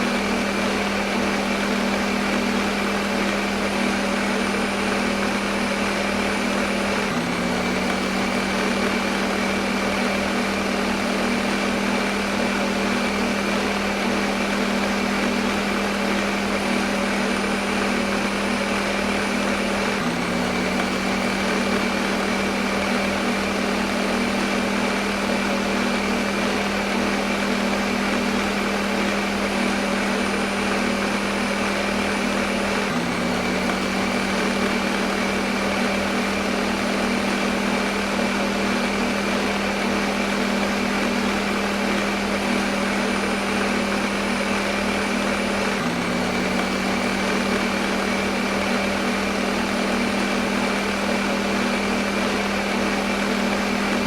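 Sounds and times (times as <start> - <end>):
blender motor whirring: 0.0 - 54.0.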